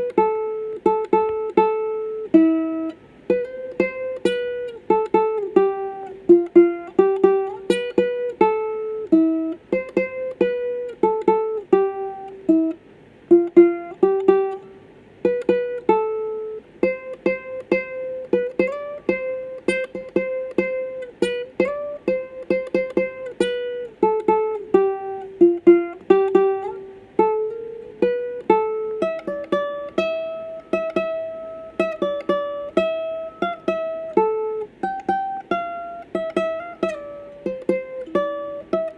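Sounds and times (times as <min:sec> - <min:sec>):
ukulele melody plucked: 0:00.0 - 0:38.9.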